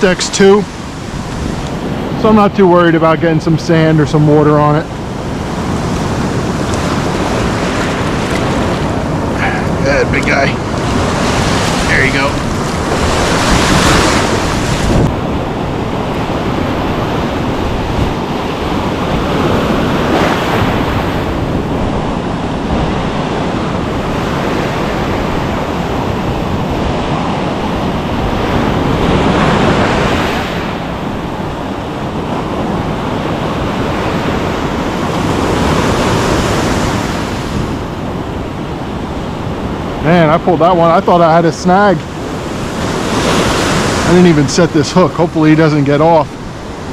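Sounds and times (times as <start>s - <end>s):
ocean surf breaking: 0.0s - 46.9s
wind buffeting microphone: 0.0s - 46.9s.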